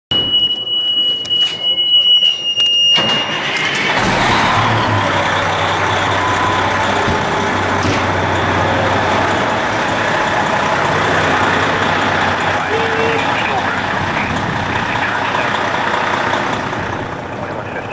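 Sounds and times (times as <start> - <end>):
diesel engine running: 3.0 - 17.9.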